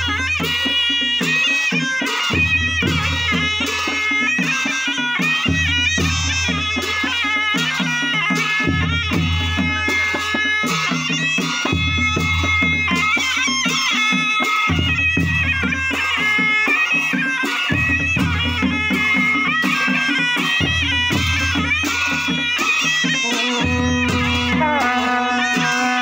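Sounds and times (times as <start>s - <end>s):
quick hand drum beat: 0.0s - 26.0s
shawm wavering melody: 0.0s - 26.0s.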